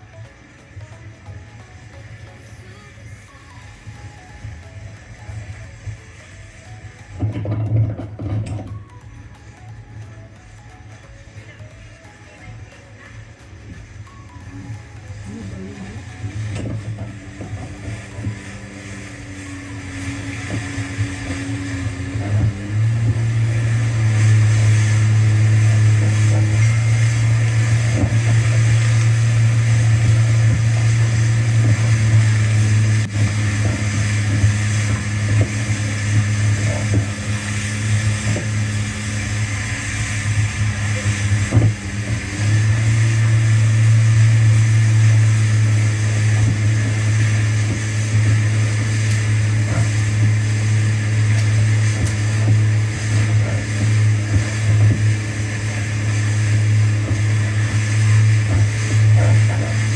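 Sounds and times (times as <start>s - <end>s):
jet ski engine droning: 0.0s - 59.9s
water rushing and spraying: 0.0s - 59.9s.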